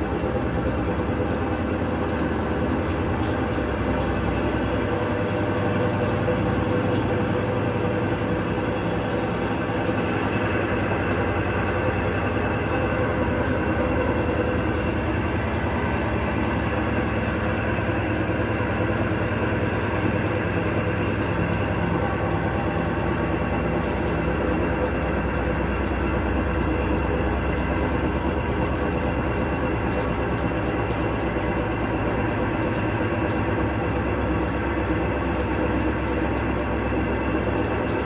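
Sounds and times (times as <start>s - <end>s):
washing machine rumbling: 0.0s - 38.0s.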